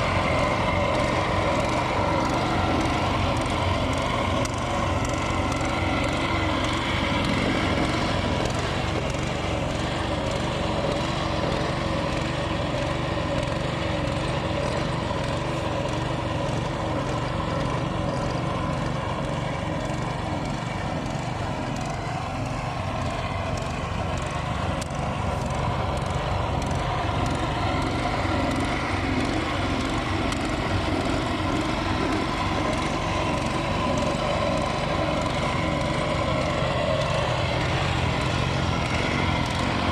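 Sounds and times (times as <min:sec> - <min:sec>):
construction machinery engine running: 0:00.0 - 0:39.9.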